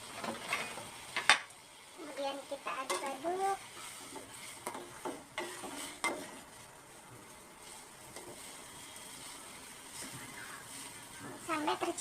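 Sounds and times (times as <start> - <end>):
boiling water hissing: 0.0 - 12.0.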